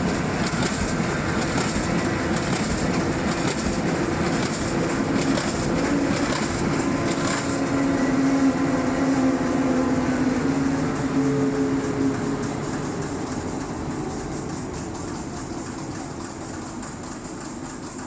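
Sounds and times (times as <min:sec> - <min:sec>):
machine mechanical clatter: 0:00.0 - 0:08.1, 0:10.5 - 0:18.0
machine hum: 0:00.0 - 0:18.0.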